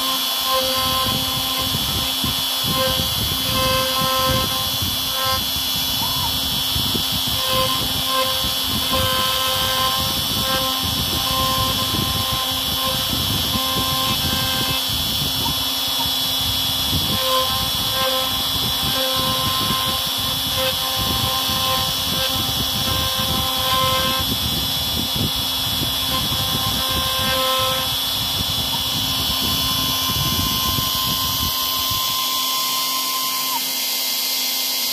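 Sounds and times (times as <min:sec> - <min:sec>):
cnc router cutting wood: 0:00.0 - 0:34.9.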